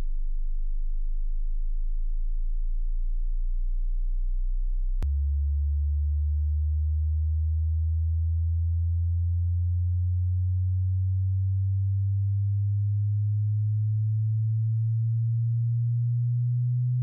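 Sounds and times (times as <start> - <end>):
sine test tone rising in pitch: 0.0 - 17.0.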